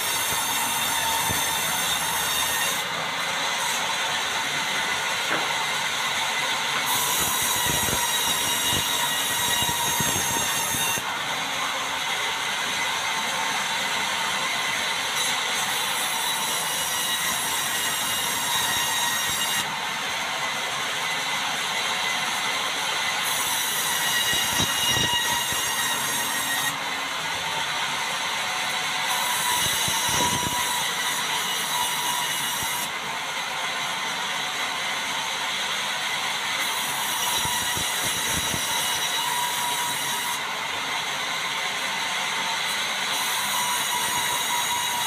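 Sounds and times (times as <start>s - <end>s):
band saw whining: 0.0s - 45.0s.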